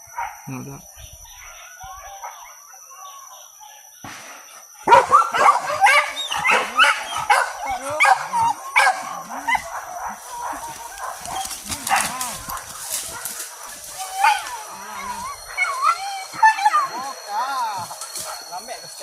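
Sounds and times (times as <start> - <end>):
dogs yelping and barking: 0.0 - 19.0.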